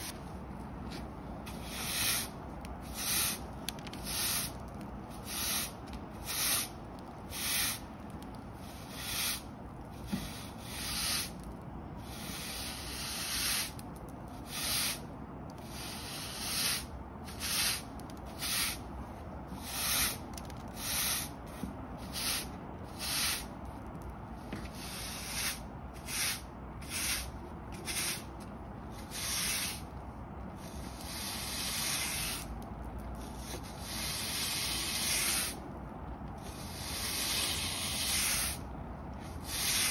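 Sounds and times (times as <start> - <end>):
push broom sweeping concrete: 0.9 - 7.9, 8.6 - 13.8, 14.4 - 18.9, 19.5 - 23.6, 24.4 - 29.9, 30.6 - 32.6, 33.2 - 35.6, 36.4 - 39.9.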